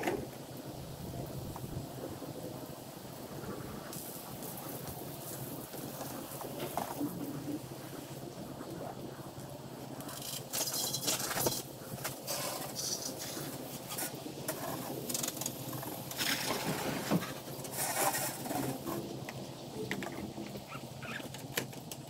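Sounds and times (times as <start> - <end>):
spray hissing on roof: 0.0 - 22.0.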